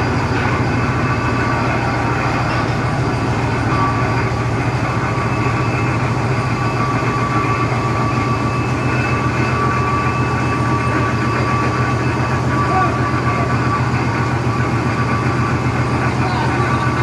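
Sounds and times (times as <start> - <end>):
diesel engine running: 0.0 - 17.0
thin steady whine: 0.0 - 17.0.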